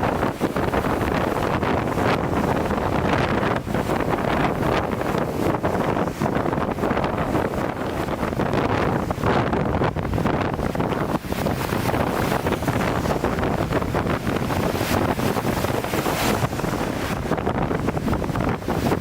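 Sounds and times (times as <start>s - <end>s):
waves crashing against breakwater: 0.0s - 19.0s
wind buffeting microphone: 0.0s - 19.0s.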